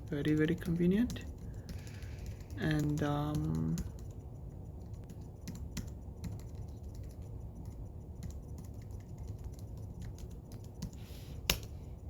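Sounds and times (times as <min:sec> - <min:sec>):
keyboard keys tapping: 0:00.0 - 0:11.6.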